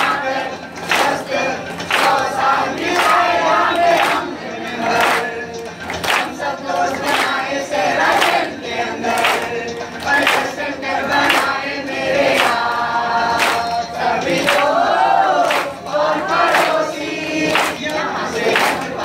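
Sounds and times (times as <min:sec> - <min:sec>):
group singing in chorus: 0:00.0 - 0:19.0
hands clapping along: 0:00.0 - 0:19.0.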